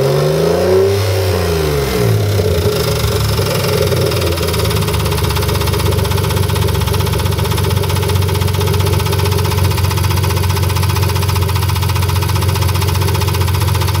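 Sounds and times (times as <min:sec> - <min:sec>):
car engine idling: 0:01.2 - 0:14.0
fast even engine ticking: 0:02.1 - 0:14.0.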